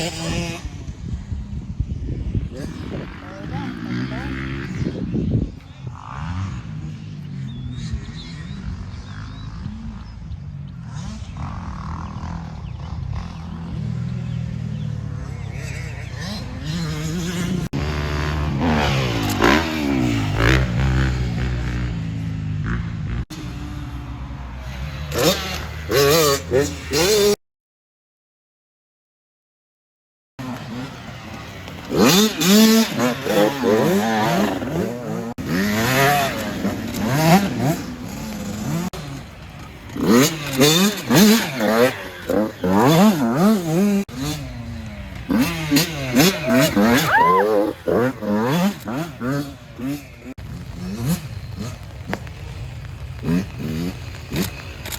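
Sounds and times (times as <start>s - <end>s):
dirt bike engines revving: 0.0s - 27.4s, 30.4s - 54.9s.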